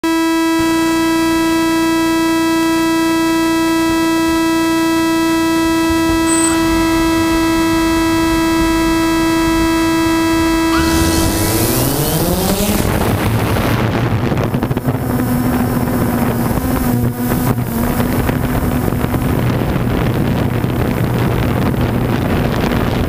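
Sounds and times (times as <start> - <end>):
steady high whine: 0.1 - 23.0.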